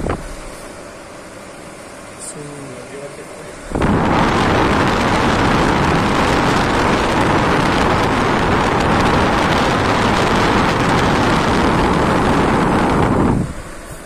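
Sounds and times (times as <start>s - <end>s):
air cooler fan blowing: 0.0s - 14.0s.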